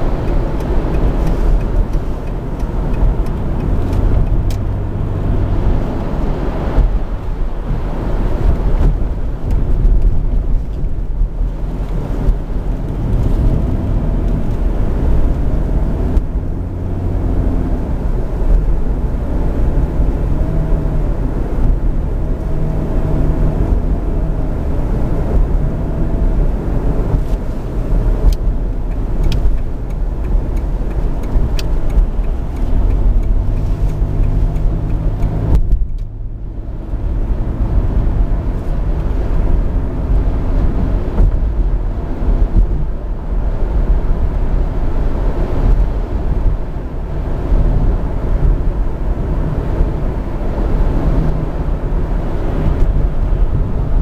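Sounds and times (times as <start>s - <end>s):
car cabin road drone: 0.0s - 54.0s.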